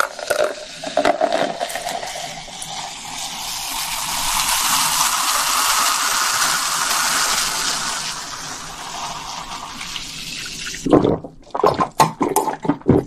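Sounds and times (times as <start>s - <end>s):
drink pouring into a glass: 0.0s - 10.9s.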